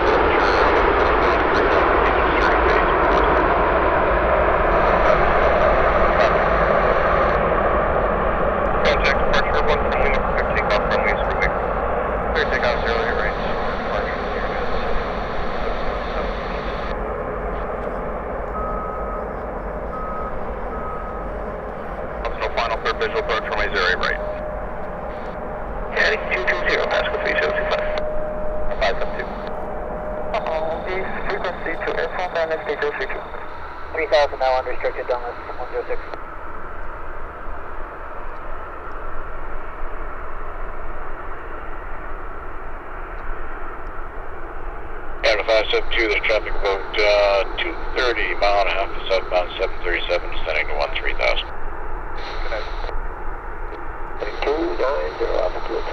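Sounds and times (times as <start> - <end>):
jet engine rushing: 0.0 - 55.9.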